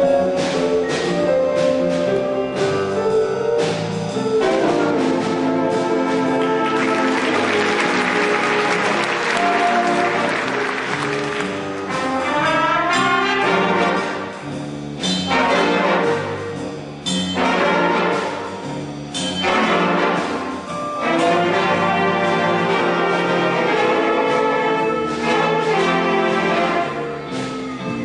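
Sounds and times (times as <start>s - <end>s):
big band brass chords: 0.0s - 28.0s.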